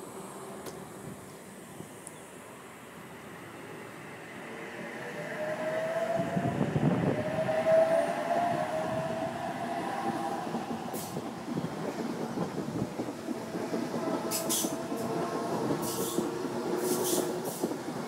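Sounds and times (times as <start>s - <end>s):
electric train whine: 0.0s - 18.0s
train wheel and rail noise: 0.0s - 18.0s.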